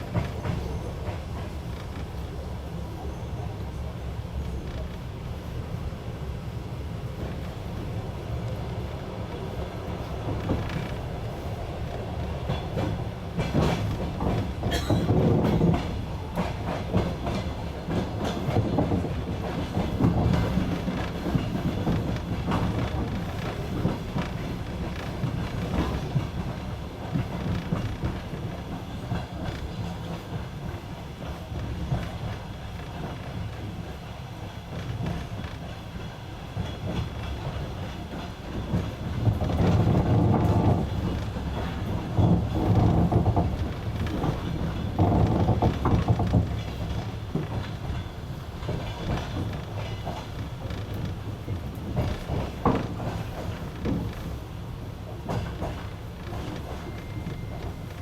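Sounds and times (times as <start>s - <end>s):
train wheels clattering over rail joints: 9.8s - 58.0s.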